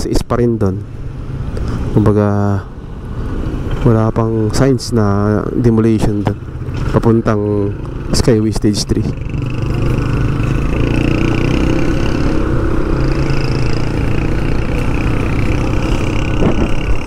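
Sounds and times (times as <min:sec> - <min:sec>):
road and traffic noise: 0:00.0 - 0:17.0
vehicle engine running: 0:01.6 - 0:17.0.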